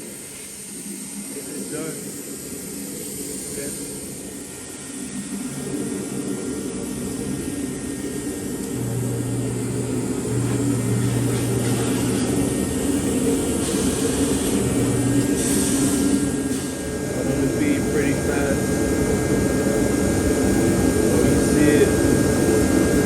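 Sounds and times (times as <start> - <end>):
motor humming: 0.0 - 23.0.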